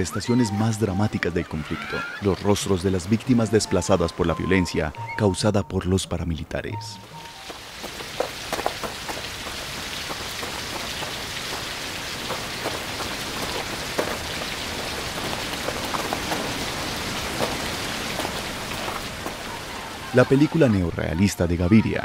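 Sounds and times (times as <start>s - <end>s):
steady rain falling: 0.0s - 5.1s, 7.0s - 22.0s.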